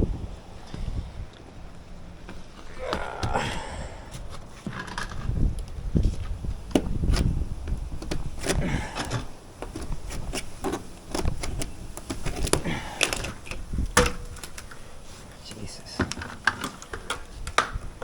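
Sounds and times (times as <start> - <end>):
objects knocking and rustling: 2.2 - 18.0.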